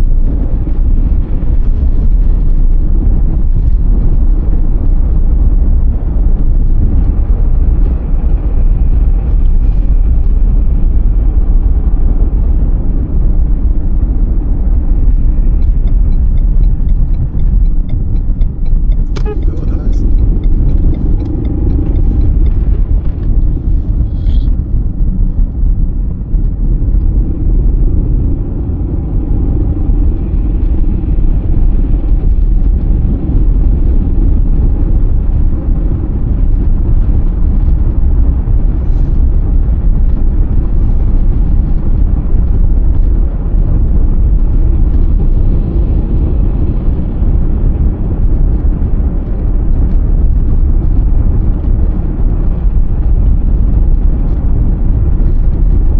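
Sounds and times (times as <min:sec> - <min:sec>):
car rumbling on snowy road: 0:00.0 - 0:55.9.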